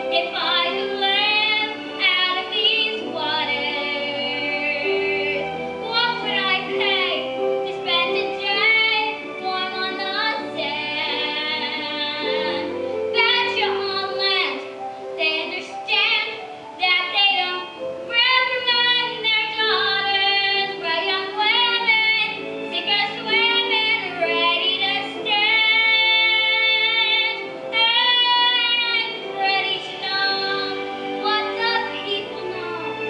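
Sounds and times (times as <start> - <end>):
young girl singing: 0.0 - 33.0.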